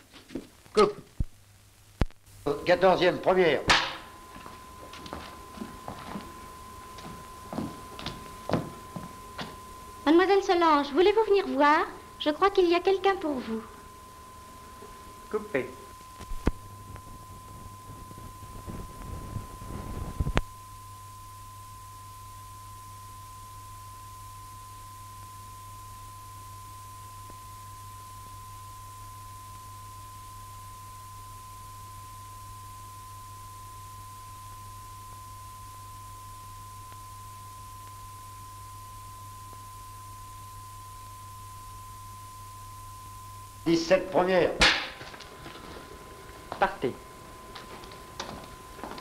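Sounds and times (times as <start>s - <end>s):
low mains hum: 0.0s - 49.0s
steady pure test tone: 0.7s - 49.0s.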